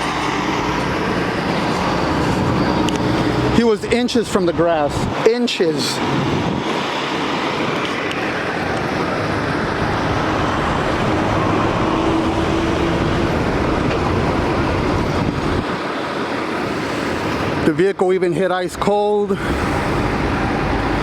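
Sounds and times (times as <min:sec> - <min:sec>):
motor vehicle noise: 0:00.0 - 0:21.0.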